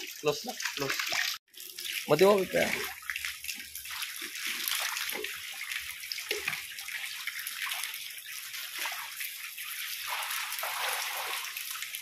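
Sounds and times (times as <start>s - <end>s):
shallow water splashing: 0.0s - 12.0s
bare feet wading in water: 2.0s - 12.0s.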